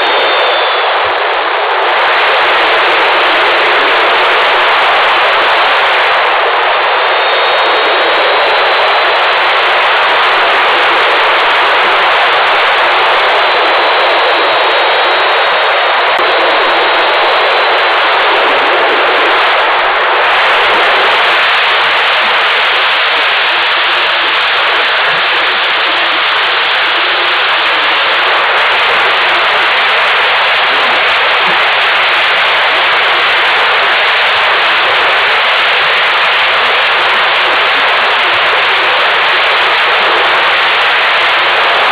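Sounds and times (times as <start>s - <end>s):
wind rushing over camera: 0.0s - 41.9s.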